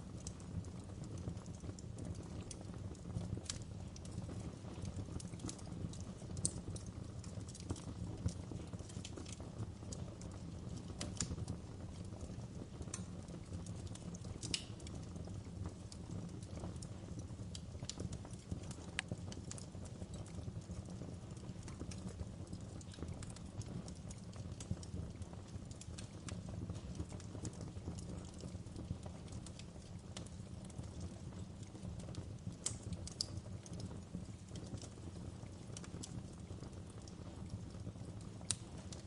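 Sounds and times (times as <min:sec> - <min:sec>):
fire crackling and popping: 0:00.0 - 0:39.0
wood fire flames rumbling: 0:00.0 - 0:39.0.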